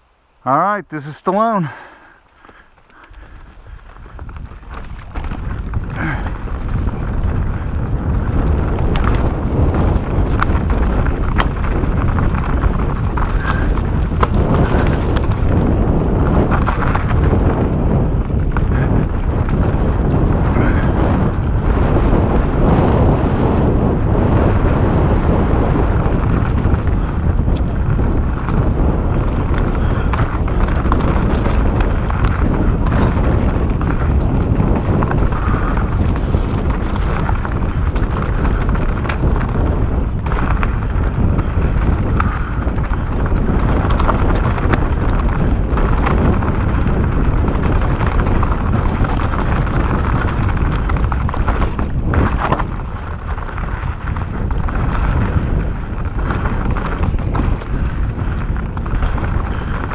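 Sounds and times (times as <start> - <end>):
wind noise on microphone: 0.0 - 59.9
bike knocking and rattling over rocks: 1.7 - 59.9.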